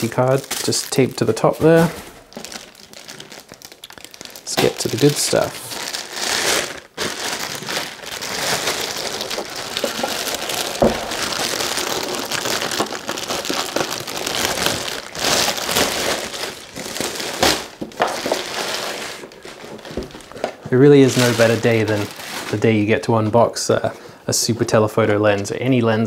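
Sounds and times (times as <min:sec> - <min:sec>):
plastic wrapping crinkling: 0:00.0 - 0:23.8.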